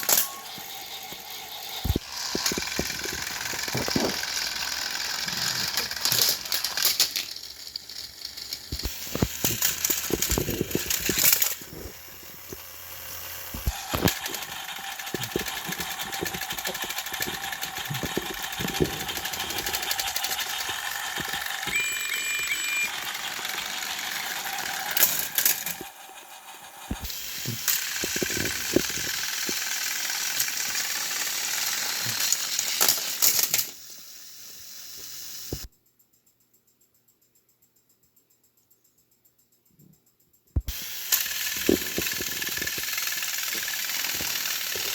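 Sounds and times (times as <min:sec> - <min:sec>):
wheels clattering on plastic track: 0:00.0 - 0:12.6, 0:13.2 - 0:33.8, 0:40.8 - 0:44.9
toy train motors whirring: 0:00.0 - 0:35.7, 0:40.7 - 0:44.9.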